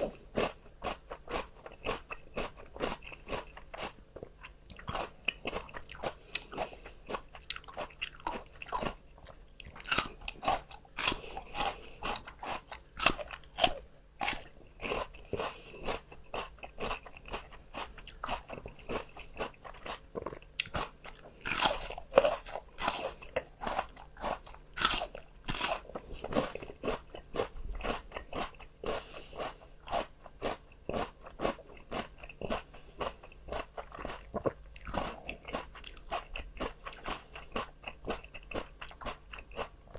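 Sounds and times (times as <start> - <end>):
crunching raw vegetables: 0.0 - 39.9.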